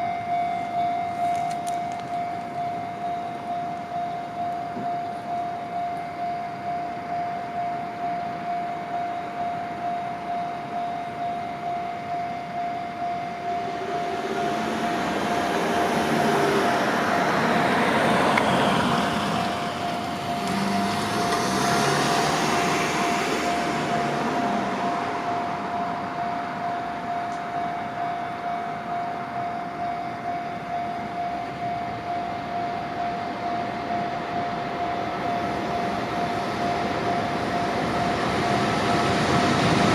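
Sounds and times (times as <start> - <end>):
level-crossing warning bell: 0.0 - 39.9
train passing: 0.0 - 39.9.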